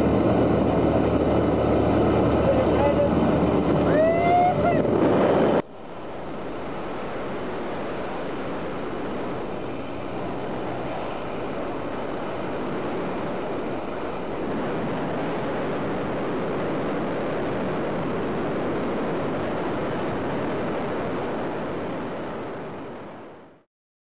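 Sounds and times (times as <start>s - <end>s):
light aircraft engine: 0.0s - 23.6s
rushing wind: 0.0s - 23.6s
wind buffeting microphone: 0.0s - 23.6s.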